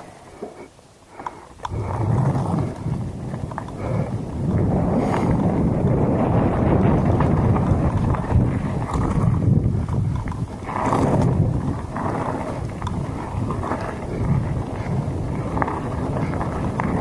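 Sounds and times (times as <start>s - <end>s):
bike clicks and knocks: 0.0s - 17.0s
tyres rumbling on gravel: 1.5s - 17.0s
wind buffeting microphone: 1.6s - 17.0s.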